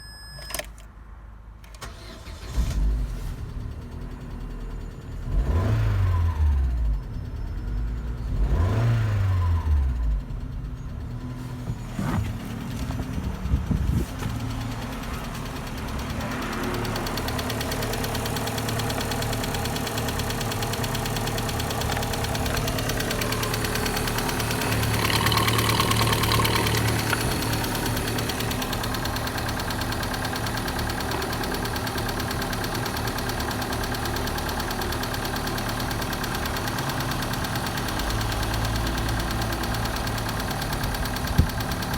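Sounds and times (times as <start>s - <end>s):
car engine starting and revving: 1.8s - 4.4s, 5.2s - 7.0s, 8.2s - 10.6s, 11.2s - 41.9s.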